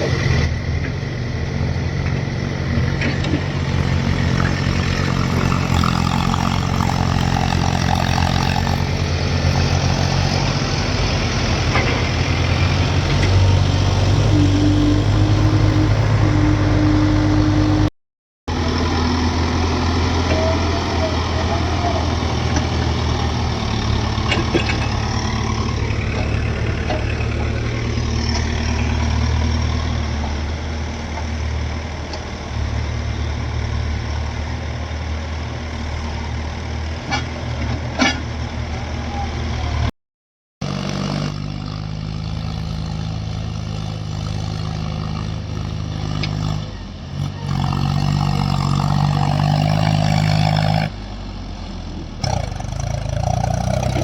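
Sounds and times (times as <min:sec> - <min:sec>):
diesel backhoe engine running: 0:00.0 - 0:17.9, 0:18.5 - 0:39.9, 0:40.6 - 0:54.0.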